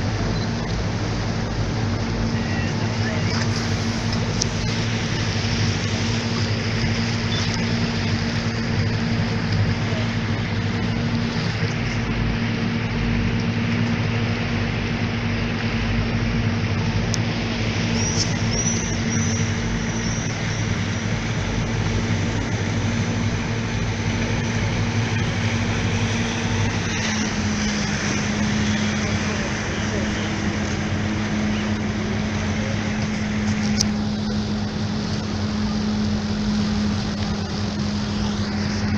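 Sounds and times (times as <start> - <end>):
motorboat engine humming: 0.0 - 38.9
water rushing past: 0.0 - 38.9.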